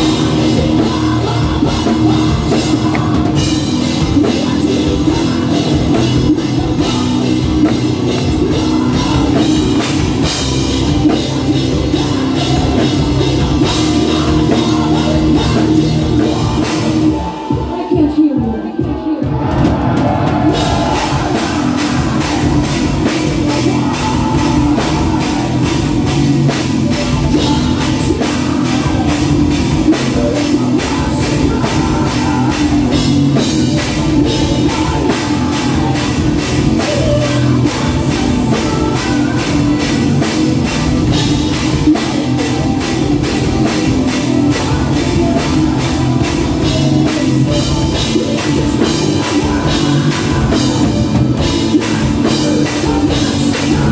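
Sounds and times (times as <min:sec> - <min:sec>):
bass guitar: 0:00.0 - 0:17.9, 0:19.2 - 0:53.9
distorted electric guitars: 0:00.0 - 0:53.9
fast drum beat: 0:00.0 - 0:53.9.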